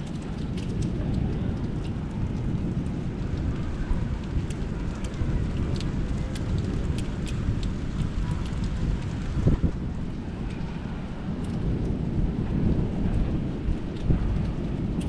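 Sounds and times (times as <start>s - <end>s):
rain low rumble: 0.0s - 15.0s
raindrop ticks: 0.0s - 15.0s.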